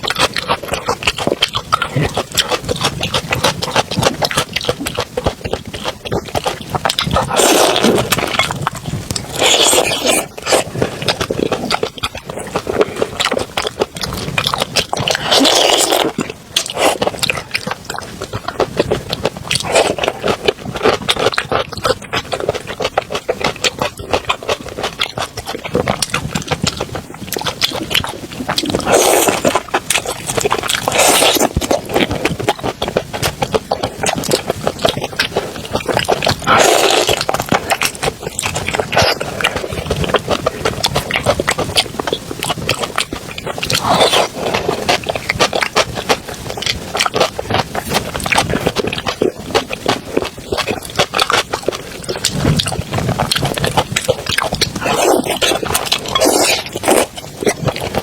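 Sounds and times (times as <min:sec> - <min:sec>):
person chewing and slurping: 0:00.0 - 0:58.0.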